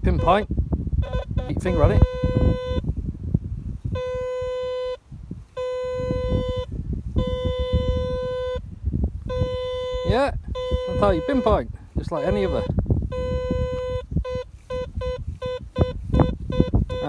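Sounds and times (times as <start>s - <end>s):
metal detector tone: 0.0s - 2.8s, 3.9s - 8.6s, 9.3s - 17.0s.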